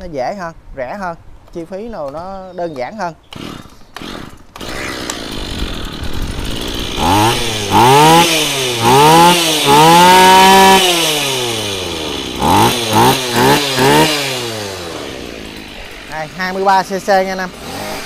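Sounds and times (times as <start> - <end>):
brush cutter engine revving: 3.2 - 18.0.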